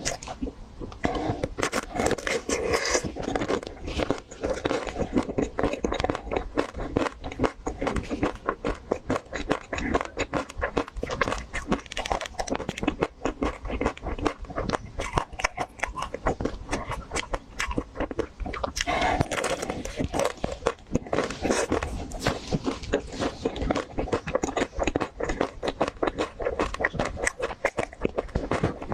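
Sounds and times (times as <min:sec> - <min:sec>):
crunchy ice cream bar eating: 0:00.0 - 0:28.9.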